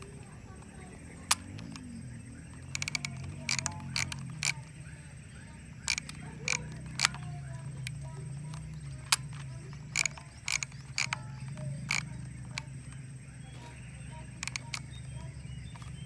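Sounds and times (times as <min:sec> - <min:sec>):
film camera mechanism clicking: 0:00.0 - 0:04.8, 0:05.7 - 0:16.0.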